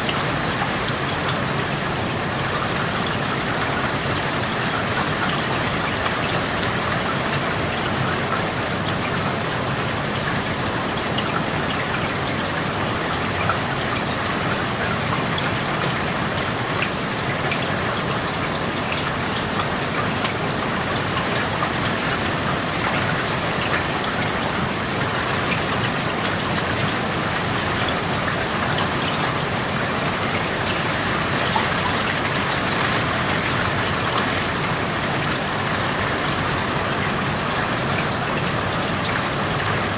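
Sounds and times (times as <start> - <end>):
rain falling: 0.0 - 39.9
raindrops ticking on surfaces: 0.0 - 39.9.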